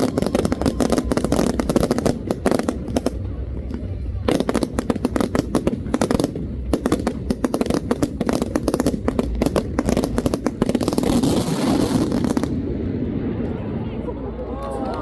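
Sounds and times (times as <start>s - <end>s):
fireworks cracks and bangs: 0.0s - 13.6s.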